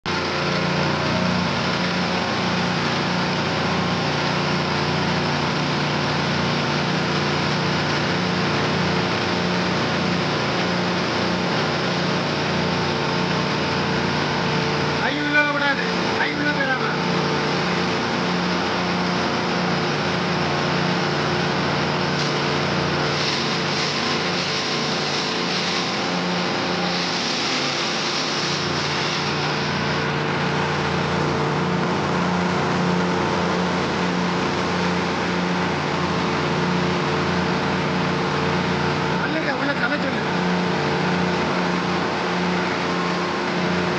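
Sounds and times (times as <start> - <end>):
chipper-shredder humming: 0.1 - 43.9.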